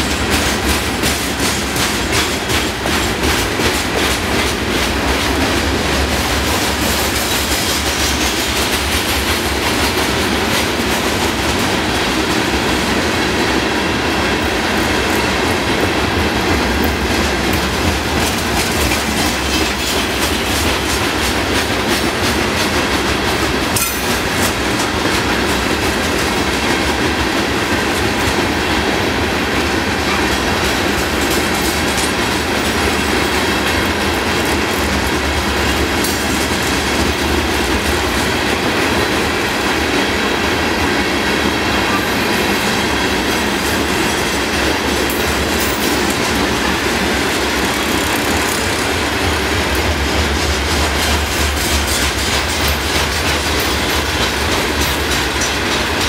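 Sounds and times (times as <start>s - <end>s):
freight train rumble: 0.0s - 56.0s
train wheels clacking over rail: 0.0s - 56.0s.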